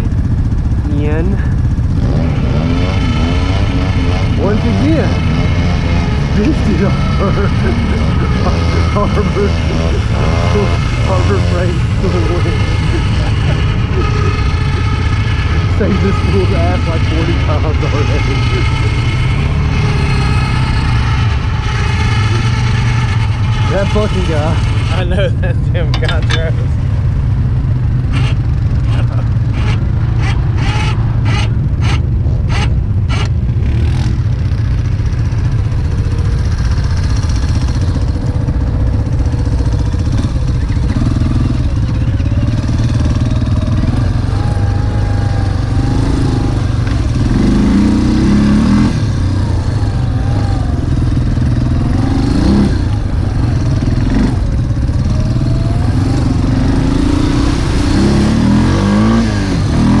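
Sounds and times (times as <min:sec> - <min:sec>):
atv engines revving: 0:00.0 - 1:00.0.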